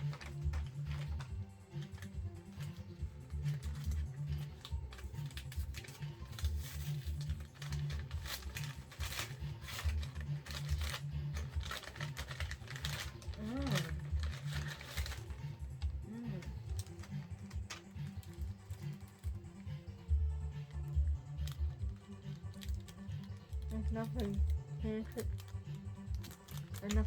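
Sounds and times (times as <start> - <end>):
packaging crinkling and clicking: 0.0 - 19.6, 20.7 - 27.0.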